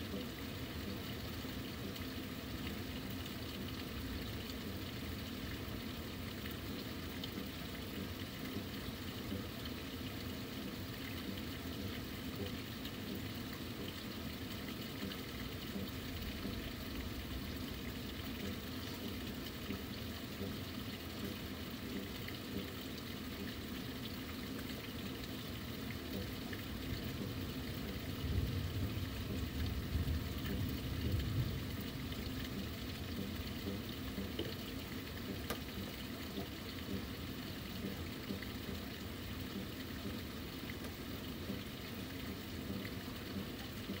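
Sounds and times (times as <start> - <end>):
steady rain hissing: 0.0 - 44.0.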